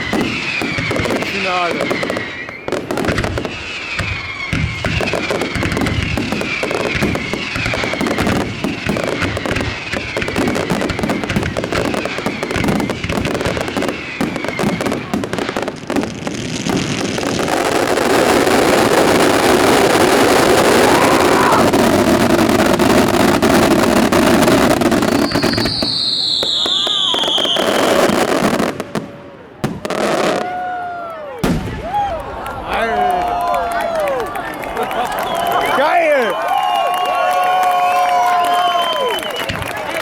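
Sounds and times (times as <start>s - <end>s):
fireworks whistle: 0.0s - 16.0s, 16.6s - 32.9s, 34.8s - 40.0s
fireworks bursts and bangs: 0.0s - 40.0s.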